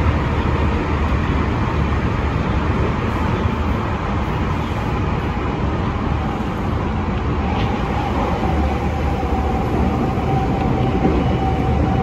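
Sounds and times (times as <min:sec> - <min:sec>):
electric train running through tunnel: 0:00.0 - 0:12.0.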